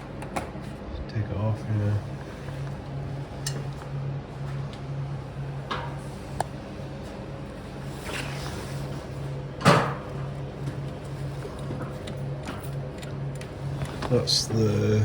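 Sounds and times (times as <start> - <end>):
pulsing low hum: 0.0 - 15.0.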